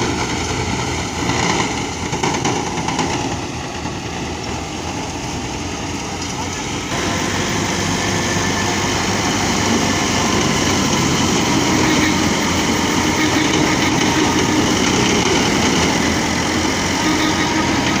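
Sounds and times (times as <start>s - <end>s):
thresher machinery noise: 0.0s - 18.0s
tractor engine running: 0.0s - 18.0s.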